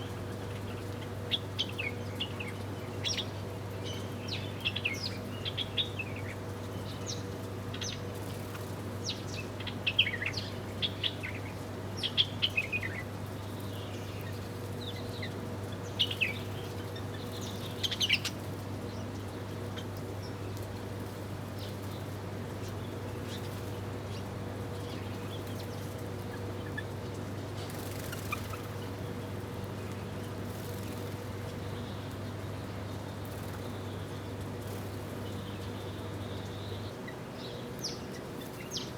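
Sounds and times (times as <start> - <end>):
small birds chirping: 0.0 - 20.7, 21.5 - 38.9.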